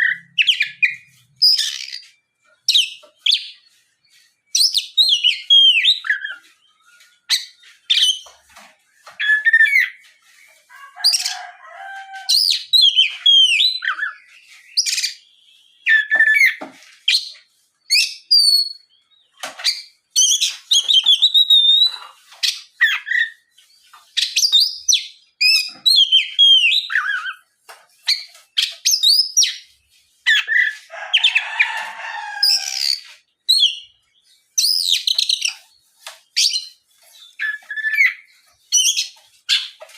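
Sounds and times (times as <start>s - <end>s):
magpie-robin singing: 0.0s - 8.3s, 9.0s - 11.3s, 12.1s - 31.8s, 32.4s - 39.8s
harsh scratchy bird calls: 0.0s - 39.9s.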